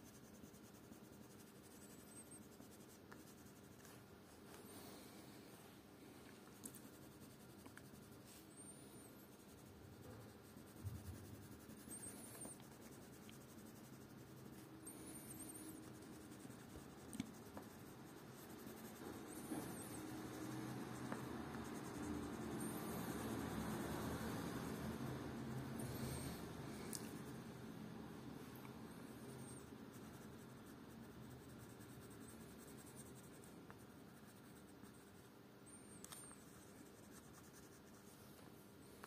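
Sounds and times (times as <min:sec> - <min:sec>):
pencil scratching on paper: 0:00.0 - 0:04.1, 0:06.6 - 0:27.6, 0:29.0 - 0:35.3, 0:36.4 - 0:38.2.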